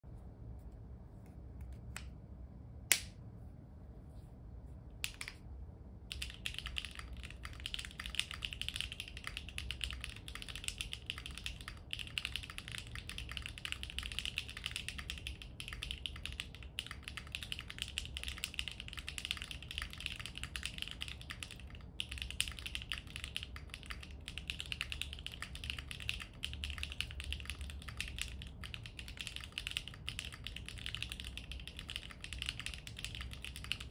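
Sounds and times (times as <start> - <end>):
mechanical keyboard typing: 6.1 - 33.9.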